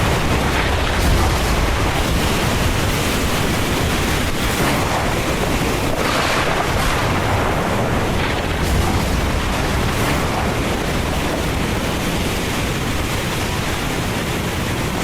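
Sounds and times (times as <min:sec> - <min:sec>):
deep low rumble: 0:00.0 - 0:05.9, 0:06.7 - 0:13.1
heavy rain pouring: 0:00.0 - 0:15.0.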